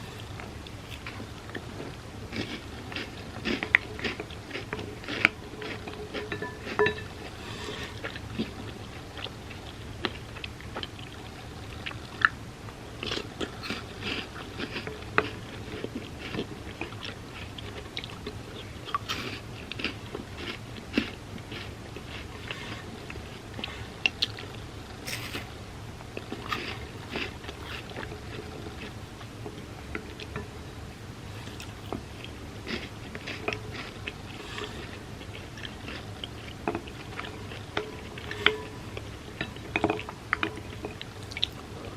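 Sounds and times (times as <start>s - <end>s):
crunchy cereal being chewed: 0.1s - 12.4s, 13.0s - 30.4s, 31.3s - 41.9s.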